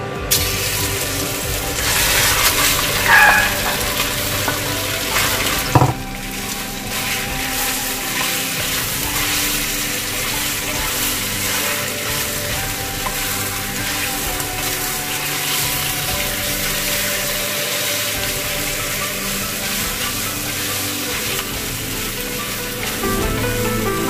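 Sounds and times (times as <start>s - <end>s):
meat sizzling in oil: 0.3s - 23.8s
wooden spatula scraping pan: 1.6s - 23.1s.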